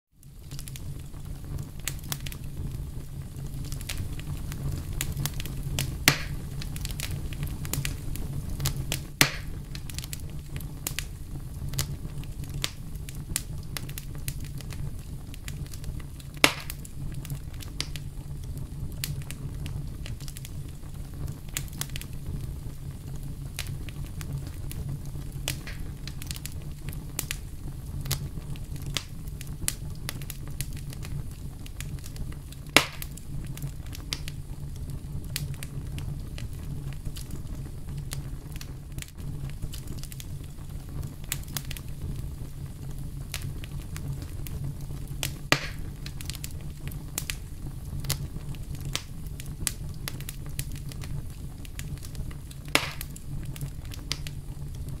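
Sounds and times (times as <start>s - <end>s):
campfire crackling: 0.2s - 55.0s
loud fire pops: 0.2s - 55.0s.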